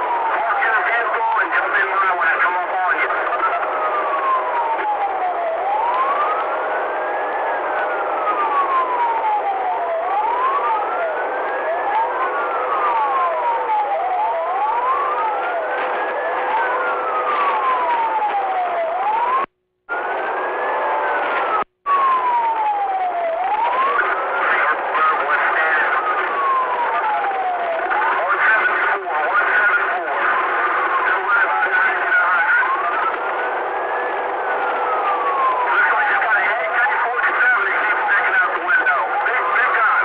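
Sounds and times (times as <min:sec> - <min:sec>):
fainter second siren wail: 0:00.0 - 0:40.0
police siren wailing: 0:00.0 - 0:40.0
road noise: 0:00.0 - 0:40.0.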